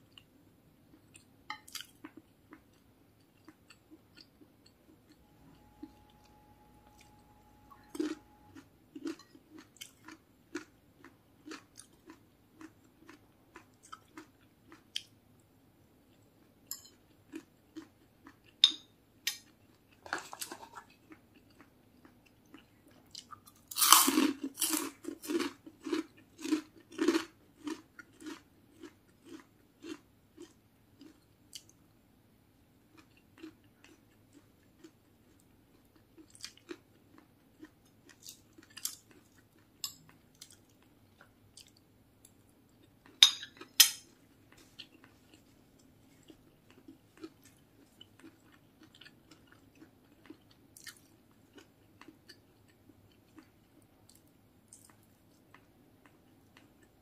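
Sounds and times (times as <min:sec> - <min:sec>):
person chewing food: 0:00.9 - 0:15.2, 0:16.1 - 0:31.8, 0:32.8 - 0:57.0.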